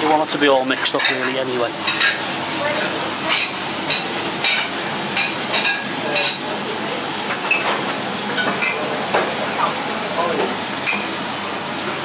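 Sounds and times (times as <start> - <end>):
fish sizzling in frying pan: 0.0 - 12.0.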